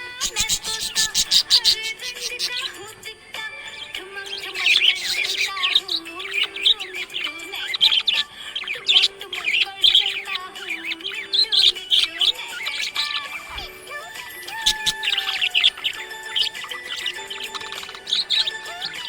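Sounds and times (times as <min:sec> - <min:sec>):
background music: 0:00.0 - 0:19.0
budgerigar chirping and warbling: 0:00.0 - 0:19.0.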